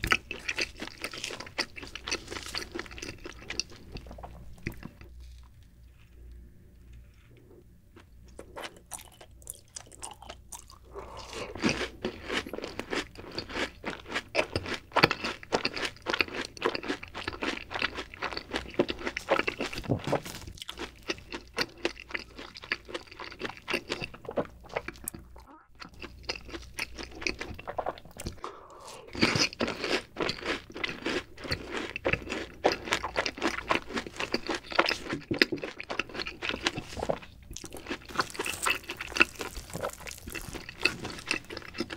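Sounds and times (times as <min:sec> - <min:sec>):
crunchy chewing: 0:00.0 - 0:41.9.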